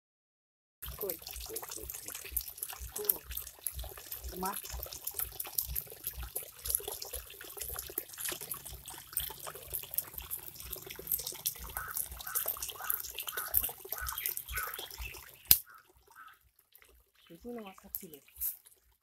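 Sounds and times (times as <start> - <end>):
shallow water splashing and trickling: 0.8 - 19.0
small irregular crackles: 2.0 - 19.0.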